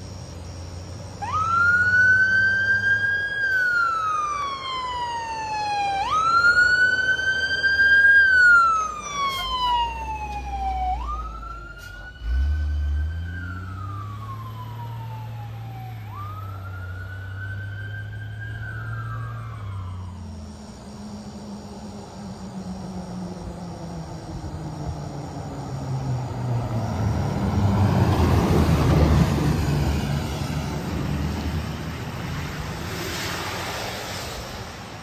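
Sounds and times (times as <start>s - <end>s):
truck engine rumble: 0.0s - 35.0s
fire truck siren wailing: 1.1s - 34.5s.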